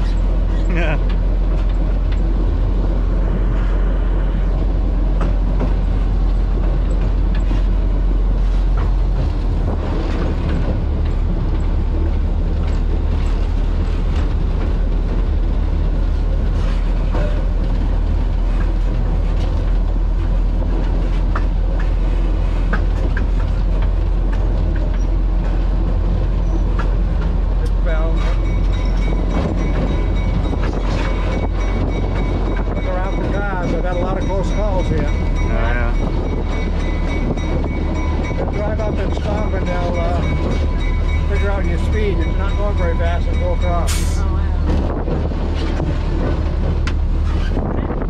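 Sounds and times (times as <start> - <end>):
diesel locomotive engine running: 0.0 - 48.0.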